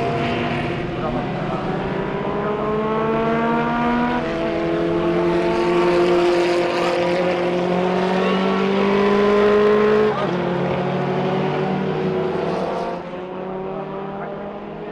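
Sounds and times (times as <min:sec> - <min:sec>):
racing car engine accelerating: 0:00.0 - 0:14.9.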